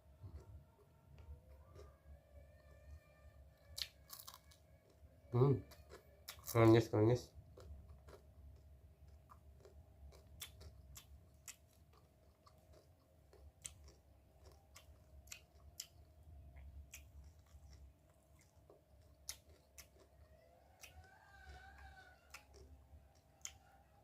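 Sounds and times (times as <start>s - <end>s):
chewing and crunching: 0.2s - 2.0s, 3.6s - 24.0s.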